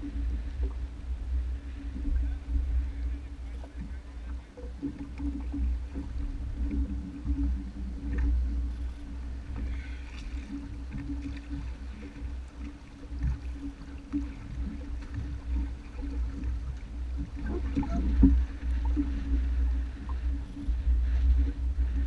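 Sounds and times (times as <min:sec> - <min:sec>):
water splashing: 0:00.0 - 0:22.0
watercraft engine running: 0:00.0 - 0:22.0
wind rumble on microphone: 0:00.0 - 0:22.0.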